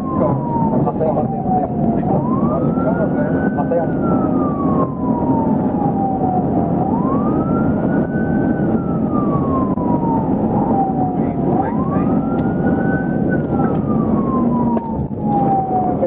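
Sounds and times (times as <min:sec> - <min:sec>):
police siren wailing: 0:00.0 - 0:16.0
vehicle engine and road noise: 0:00.0 - 0:16.0.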